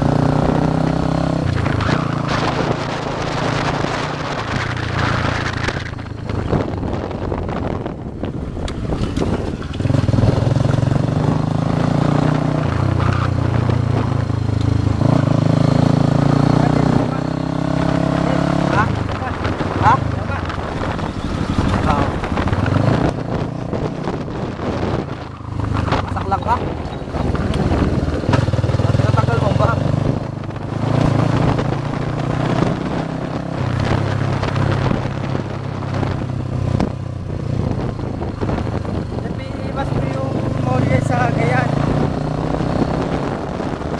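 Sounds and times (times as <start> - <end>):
motorbike engine running: 0.0 - 43.9
wind buffeting microphone: 0.0 - 43.9.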